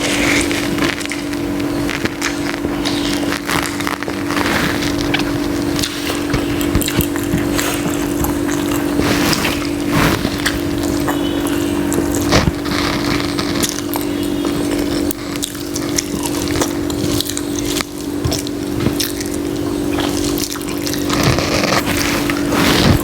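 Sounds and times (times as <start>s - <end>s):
steady hum: 0.0s - 23.0s
wet chewing and smacking: 0.0s - 23.0s.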